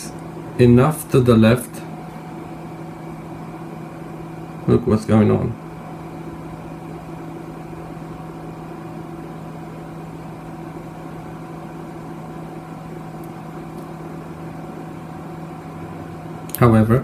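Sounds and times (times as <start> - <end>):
electronics humming: 0.0 - 17.0.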